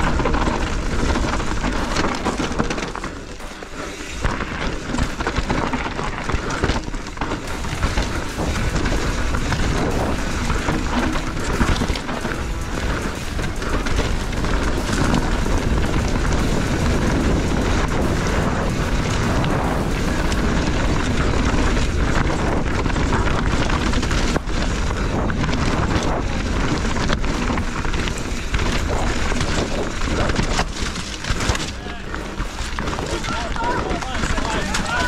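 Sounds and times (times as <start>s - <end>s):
bike rattling over rough ground: 0.0s - 35.0s
wind rumble on microphone: 0.0s - 35.0s.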